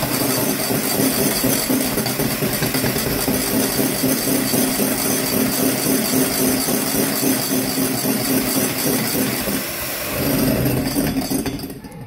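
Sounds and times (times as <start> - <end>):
electric whisk beating: 0.0 - 11.9.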